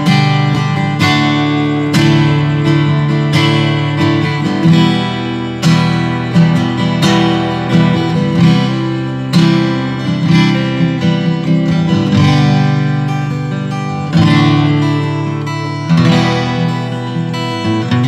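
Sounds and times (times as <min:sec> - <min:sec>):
acoustic guitar chords strummed: 0:00.0 - 0:18.0.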